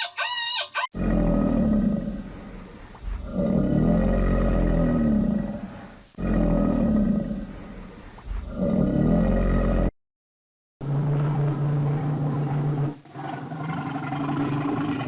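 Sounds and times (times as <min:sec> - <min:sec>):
large animal roaring: 0:00.9 - 0:09.9, 0:10.8 - 0:15.0.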